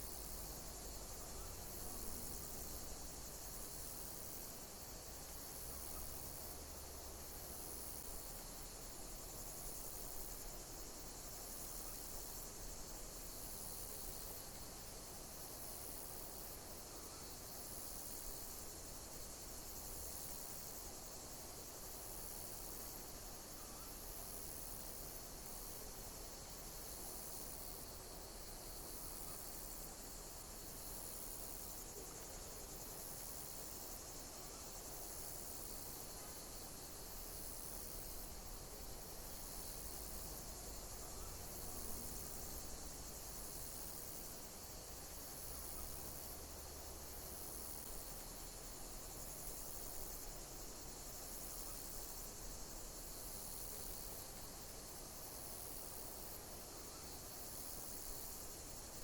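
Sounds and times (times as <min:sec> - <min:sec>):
insects chirping: 0:00.0 - 0:59.0
soft hiss: 0:00.0 - 0:59.0.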